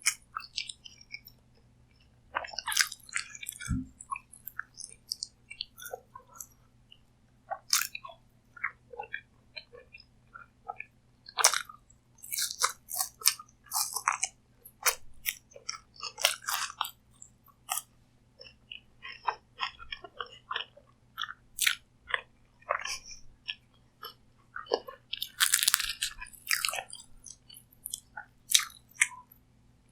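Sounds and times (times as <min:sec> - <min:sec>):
chewing crunchy food: 0:00.0 - 0:29.3.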